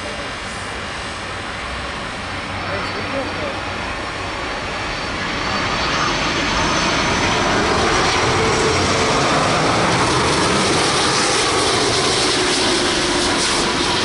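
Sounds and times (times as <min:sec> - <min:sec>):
jet engines running loud: 0:00.0 - 0:14.0.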